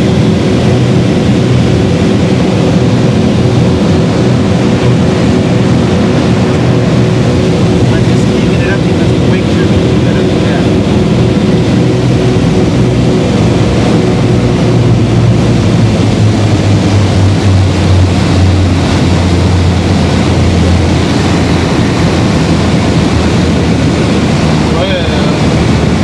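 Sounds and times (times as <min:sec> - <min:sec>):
piston engines droning: 0:00.0 - 0:26.0.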